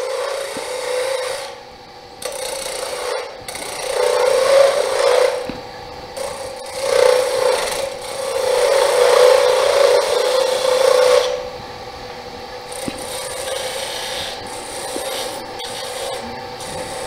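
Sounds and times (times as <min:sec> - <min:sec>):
turning tool scraping wood: 0:00.0 - 0:01.6, 0:02.2 - 0:11.5, 0:12.7 - 0:17.0
wood lathe humming: 0:00.0 - 0:17.0.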